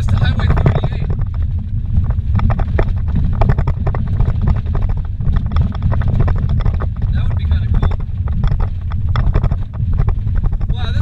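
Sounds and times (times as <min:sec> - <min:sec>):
gravel knocking vehicle body: 0:00.0 - 0:11.0
tyres rumbling on dirt road: 0:00.0 - 0:11.0.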